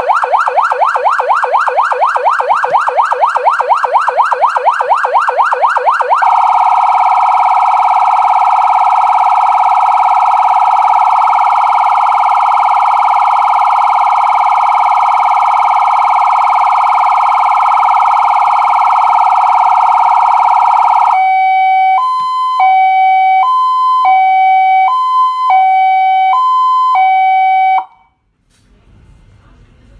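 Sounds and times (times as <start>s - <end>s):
electronic siren cycling tones: 0.0s - 28.1s.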